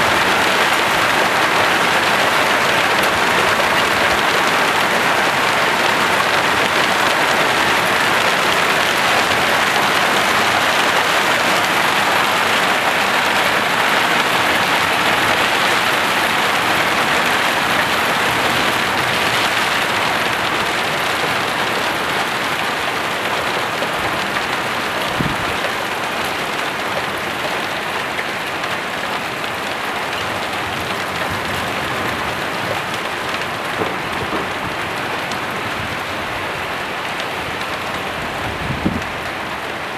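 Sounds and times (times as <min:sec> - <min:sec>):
heavy rain and hail pelting plants: 0:00.0 - 0:39.9.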